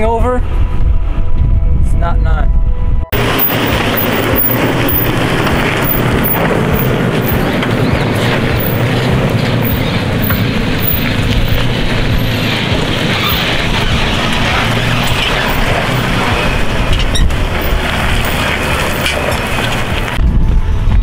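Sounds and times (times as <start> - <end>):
vehicle rumbling and buffeting: 0.0 - 21.0
off-road vehicle engine hum: 2.9 - 21.0.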